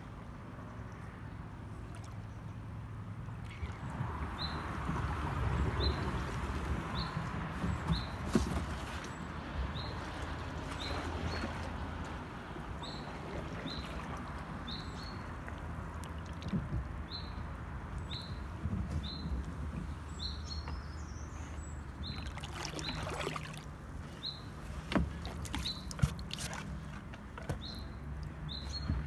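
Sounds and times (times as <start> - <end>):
kayak gliding through water: 1.3 - 29.0.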